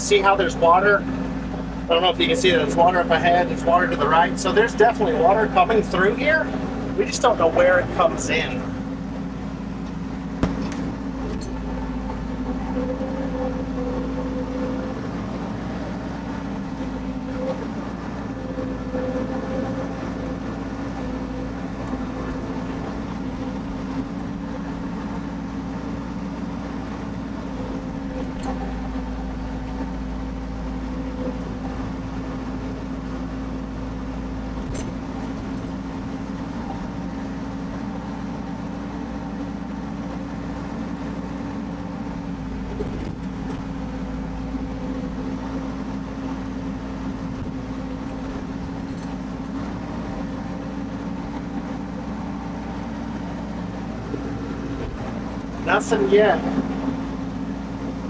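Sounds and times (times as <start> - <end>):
mini excavator engine humming: 0.0 - 58.0.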